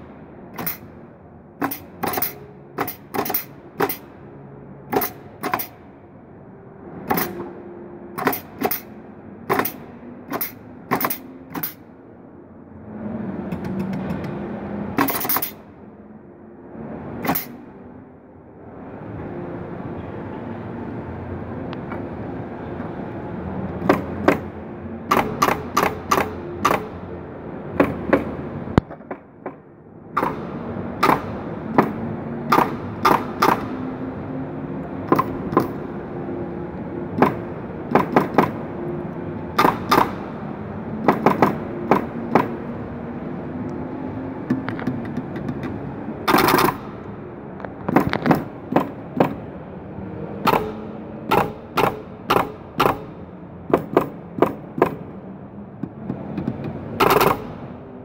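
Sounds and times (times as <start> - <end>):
background hall noise: 0.0 - 58.0.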